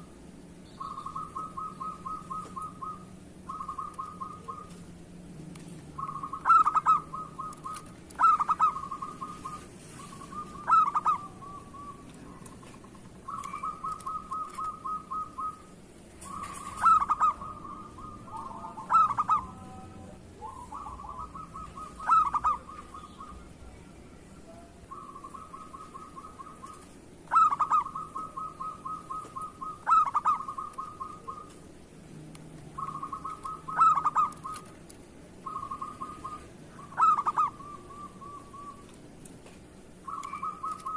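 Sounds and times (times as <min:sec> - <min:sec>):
doves cooing: 0:00.0 - 0:39.1, 0:39.8 - 0:40.9.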